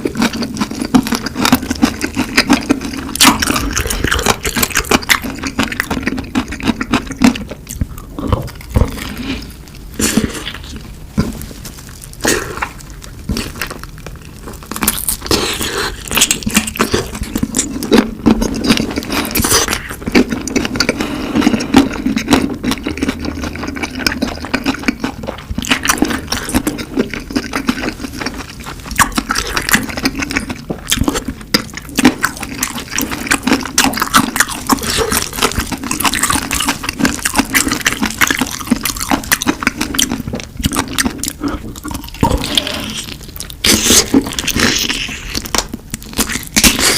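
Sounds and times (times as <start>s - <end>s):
wet chewing and crunching: 0.0s - 46.9s.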